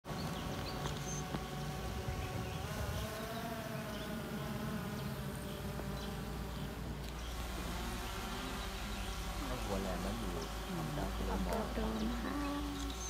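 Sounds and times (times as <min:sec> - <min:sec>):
buzzing hum of pitched tones: 0:00.1 - 0:13.0.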